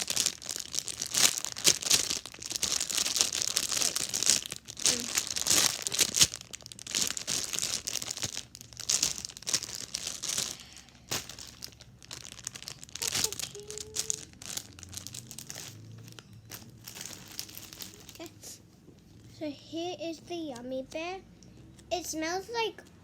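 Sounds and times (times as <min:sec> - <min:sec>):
plastic packaging crinkling: 0:00.0 - 0:18.4.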